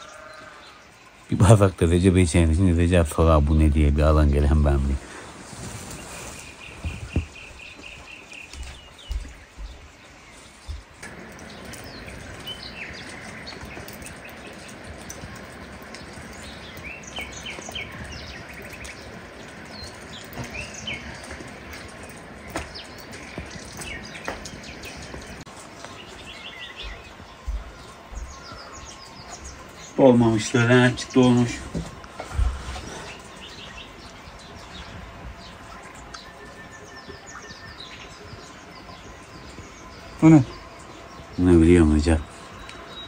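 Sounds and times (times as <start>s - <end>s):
small birds chirping: 0.0s - 43.0s
steady outdoor hiss: 0.0s - 43.0s.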